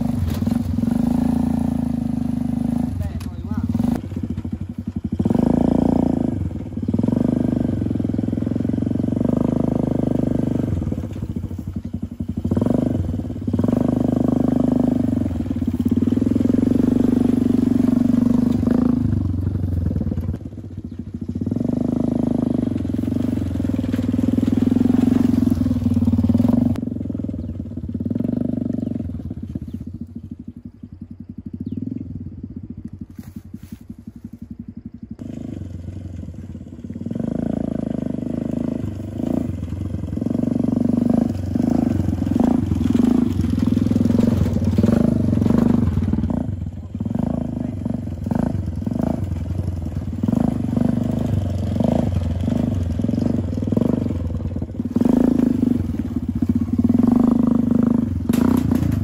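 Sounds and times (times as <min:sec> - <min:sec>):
small petrol engine revving: 0:00.0 - 0:59.0.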